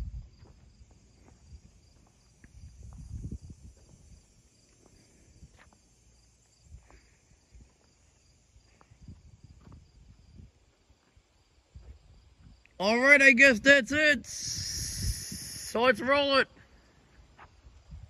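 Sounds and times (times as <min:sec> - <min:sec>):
faint insect chirping: 0:00.0 - 0:18.0.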